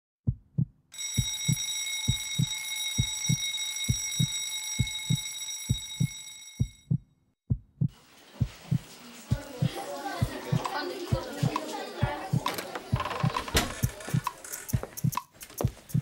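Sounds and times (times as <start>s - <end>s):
heartbeat lub-dub: 0.2s - 16.0s.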